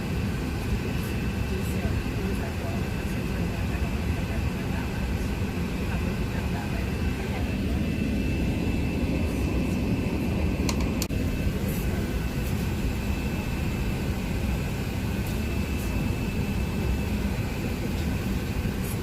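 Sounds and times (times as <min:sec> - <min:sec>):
airliner cabin rumble: 0:00.0 - 0:19.0
faint steady whine: 0:00.0 - 0:19.0.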